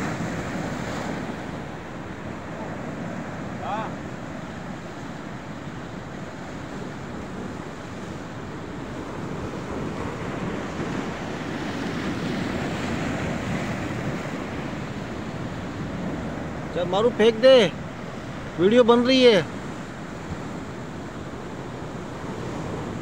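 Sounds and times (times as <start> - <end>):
sea waves washing against rocks: 0.0 - 23.0.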